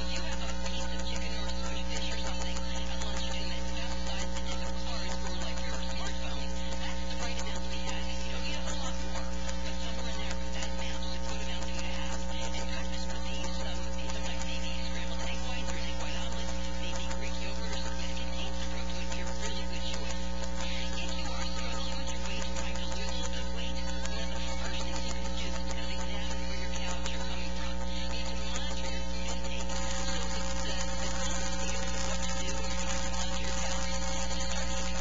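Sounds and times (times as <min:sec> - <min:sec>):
electrical mains hum and buzz: 0:00.0 - 0:35.0.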